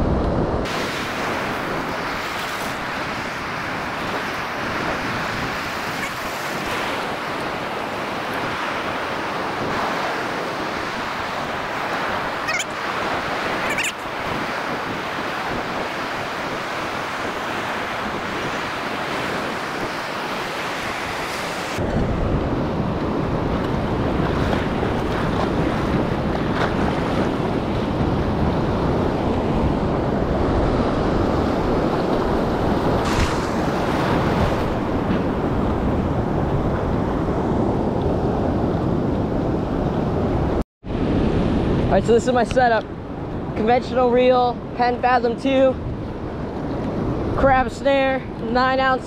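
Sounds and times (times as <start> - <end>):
ocean surf breaking: 0.0 - 49.0
wind buffeting microphone: 0.0 - 49.0.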